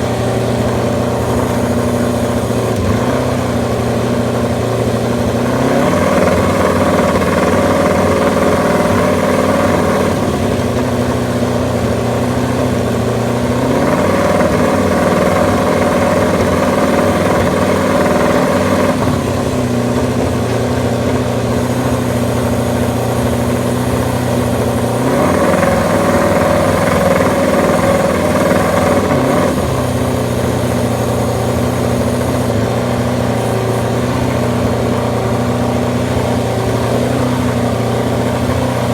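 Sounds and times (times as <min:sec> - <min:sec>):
racing motorcycle engine revving: 0:00.0 - 0:38.9.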